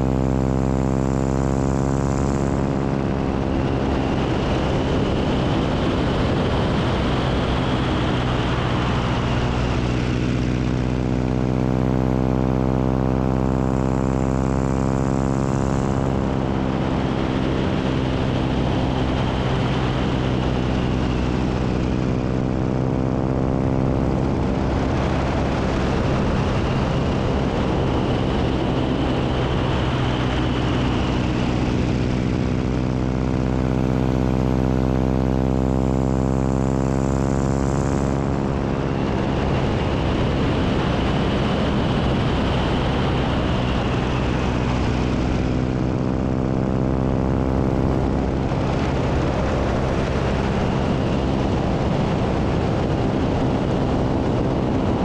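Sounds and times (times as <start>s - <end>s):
propeller plane engine in flight: 0.0s - 55.0s.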